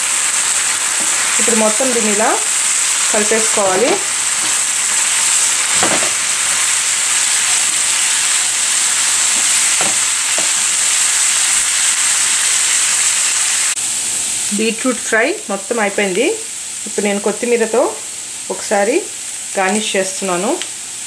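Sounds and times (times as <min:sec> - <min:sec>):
beetroot sizzling in oil: 0:00.0 - 0:21.0.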